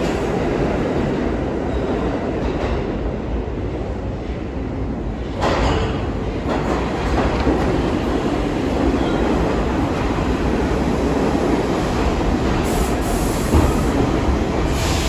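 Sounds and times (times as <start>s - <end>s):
subway train rumble: 0.0s - 15.0s
train arriving on track: 0.0s - 15.0s.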